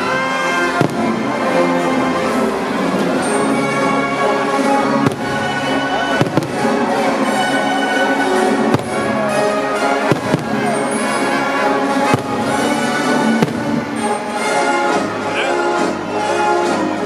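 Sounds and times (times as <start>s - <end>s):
music with sustained tones: 0.0s - 17.0s
fireworks bursting with bangs: 0.1s - 14.9s.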